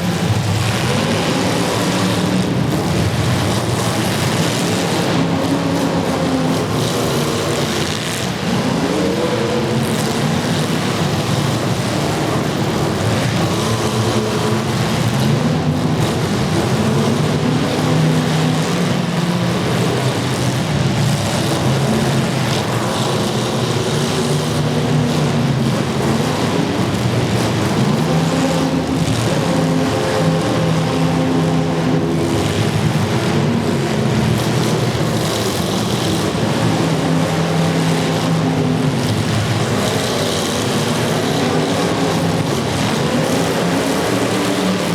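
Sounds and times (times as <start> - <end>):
car engines revving: 0.0 - 44.9.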